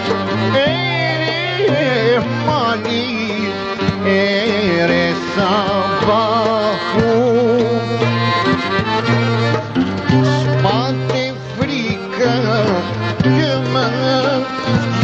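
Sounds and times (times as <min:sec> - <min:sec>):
man singing into a microphone: 0:00.0 - 0:09.5, 0:10.1 - 0:15.0
instrumental accompaniment: 0:00.0 - 0:15.0.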